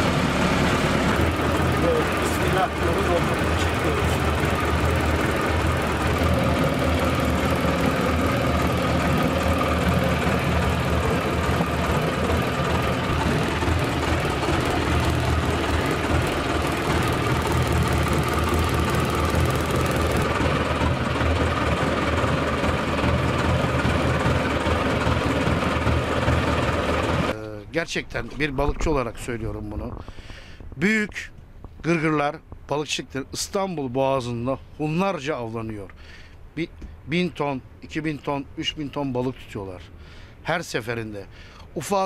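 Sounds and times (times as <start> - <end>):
boat engine rumbling: 0.0 - 42.0.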